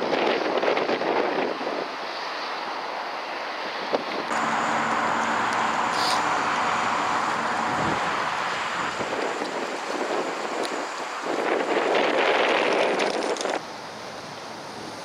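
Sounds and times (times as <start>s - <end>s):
vehicle engine tyre and wind noise: 0.0s - 15.0s.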